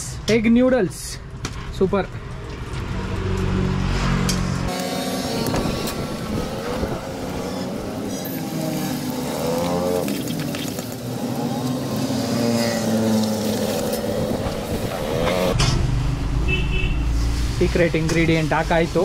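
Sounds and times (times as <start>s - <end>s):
motor vehicles passing: 1.0s - 19.0s.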